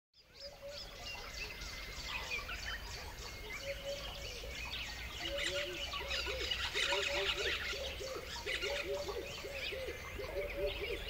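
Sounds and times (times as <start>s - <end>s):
lower repeated bird calls: 0.2s - 11.0s
small birds chirping: 0.2s - 11.0s.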